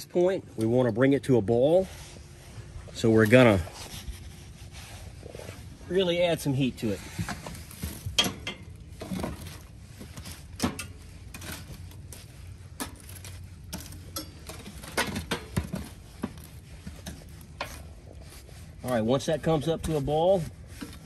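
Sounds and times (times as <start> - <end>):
poker scraping coals: 1.4 - 21.0.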